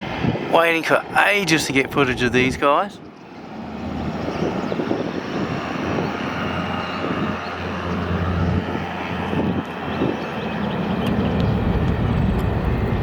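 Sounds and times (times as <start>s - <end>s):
turboprop engine drone: 0.0s - 13.0s
faint turbine whine: 0.1s - 13.0s.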